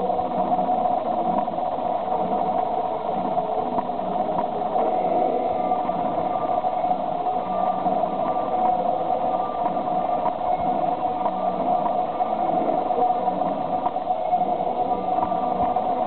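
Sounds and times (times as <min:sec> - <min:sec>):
indoor arena hum and hiss: 0:00.0 - 0:16.0.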